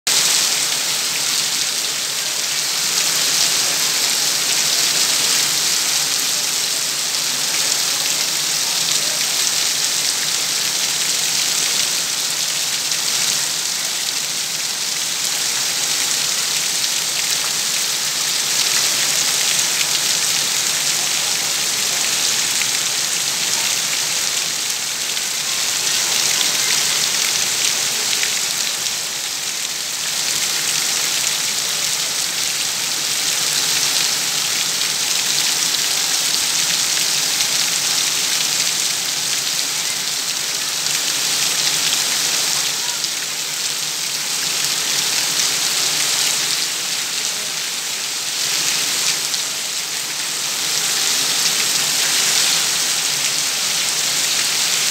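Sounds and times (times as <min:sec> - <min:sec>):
heavy rain on wet paving: 0:00.1 - 0:54.9.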